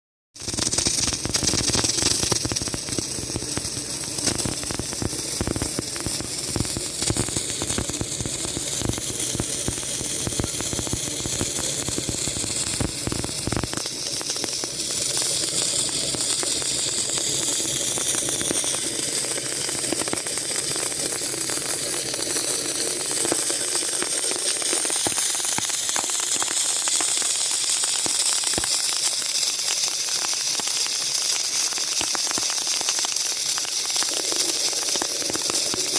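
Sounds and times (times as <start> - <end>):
welding crackle and rumble: 0.4 - 35.9
welding hiss: 0.4 - 35.9.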